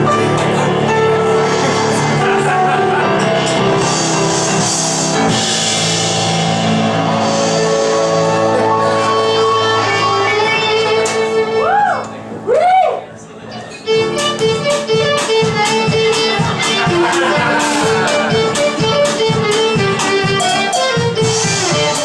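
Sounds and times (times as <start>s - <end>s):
live rock band playing: 0.0s - 12.3s, 13.8s - 22.0s
drums: 0.0s - 12.4s, 14.0s - 22.0s
guitar: 0.0s - 12.5s, 13.4s - 22.0s.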